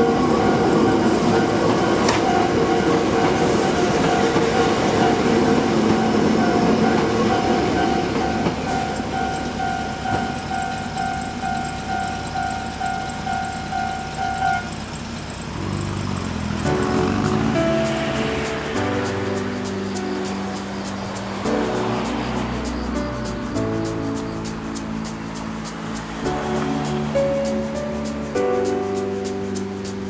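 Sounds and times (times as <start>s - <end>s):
crossing warning bell ringing: 0.0s - 28.4s
electric train rumbling: 0.0s - 30.0s.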